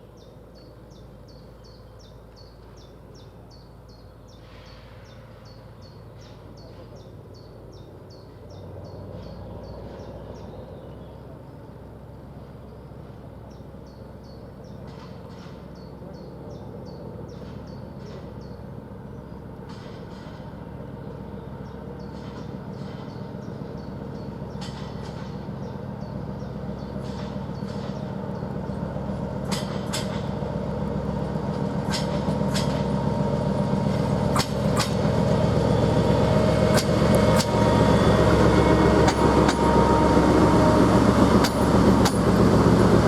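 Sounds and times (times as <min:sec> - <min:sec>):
train engine rumble: 0:00.0 - 0:43.0.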